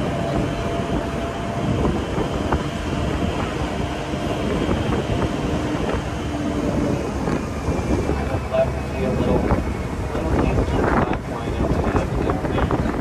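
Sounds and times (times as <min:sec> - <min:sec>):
tram engine and wheels rumbling: 0:00.0 - 0:13.0.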